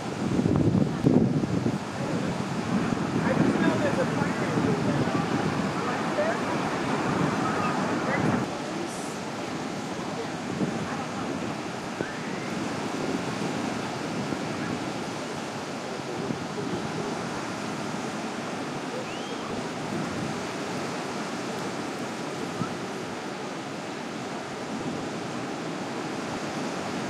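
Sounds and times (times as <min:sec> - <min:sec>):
surf breaking on shore: 0:00.0 - 0:27.0
wind buffeting microphone: 0:00.0 - 0:27.0.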